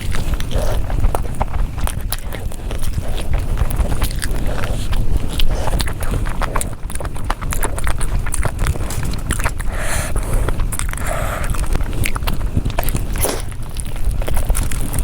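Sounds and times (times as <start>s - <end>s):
chewing with mouth smacks: 0.0s - 15.0s
crunching clicks: 0.0s - 15.0s
steady low rumble: 0.0s - 15.0s.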